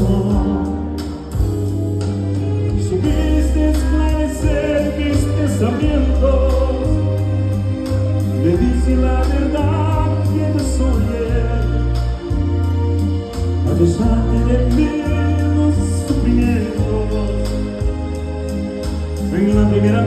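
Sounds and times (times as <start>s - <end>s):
person singing: 0.0s - 18.2s, 19.2s - 20.0s
live band playing a ballad: 0.0s - 20.0s.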